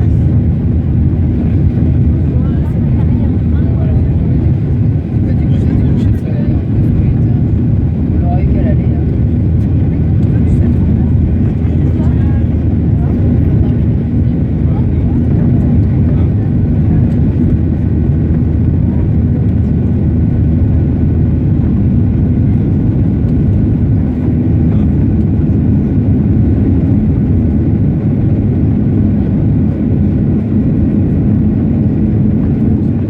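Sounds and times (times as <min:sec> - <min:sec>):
aircraft cabin engine rumble: 0:00.0 - 0:33.0.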